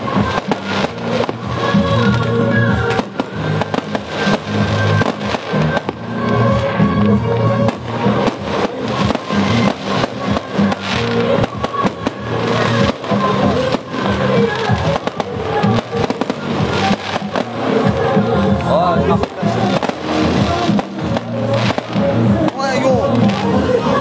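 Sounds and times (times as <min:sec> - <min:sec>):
fireworks bangs and crackles: 0:00.0 - 0:24.0
music with steady melody: 0:00.0 - 0:24.0.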